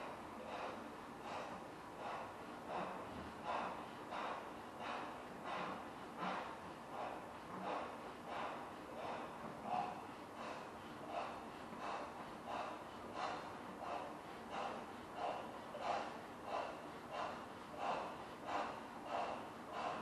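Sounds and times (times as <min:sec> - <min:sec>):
rhythmic gasping breaths: 0:00.0 - 0:20.0.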